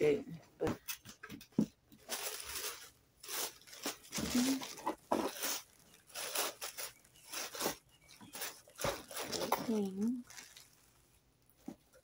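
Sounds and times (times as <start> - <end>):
packaging crinkling and rustling: 1.9 - 12.0.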